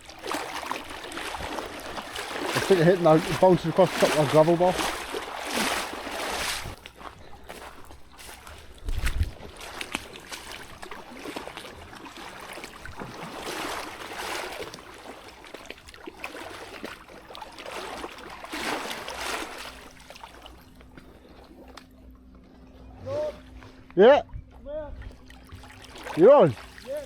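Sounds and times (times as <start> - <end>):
water lapping against hull: 0.0 - 27.0.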